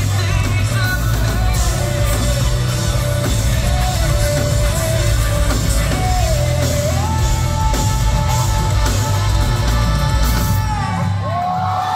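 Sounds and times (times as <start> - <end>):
rock band playing live: 0.0 - 11.9.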